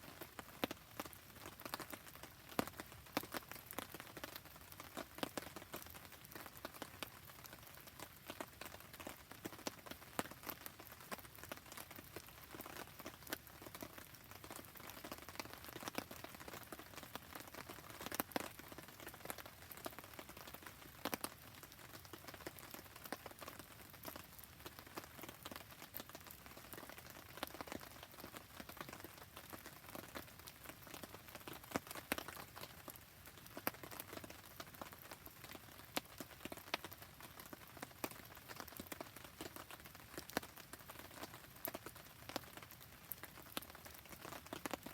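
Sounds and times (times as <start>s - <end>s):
crackling campfire: 0.0s - 44.9s
steady rain: 0.0s - 44.9s.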